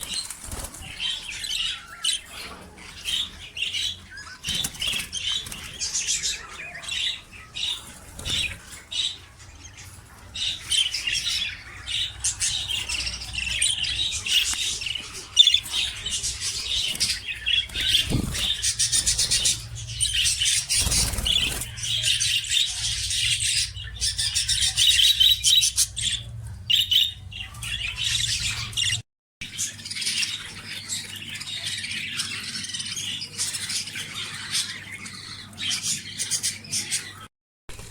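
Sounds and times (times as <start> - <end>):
budgerigars chirping and chattering: 0.0 - 37.3.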